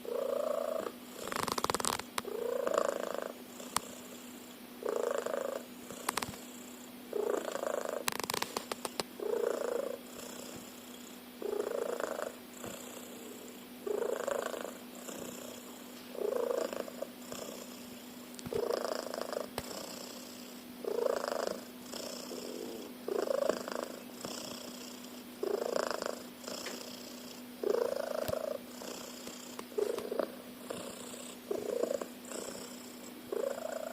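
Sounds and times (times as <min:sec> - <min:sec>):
cat snoring: 0:00.0 - 0:33.9.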